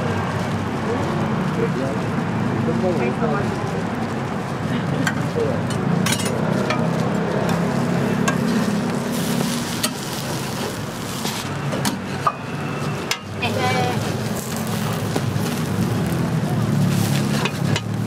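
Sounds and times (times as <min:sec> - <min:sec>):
omelets sizzling on griddle: 0:00.0 - 0:18.0.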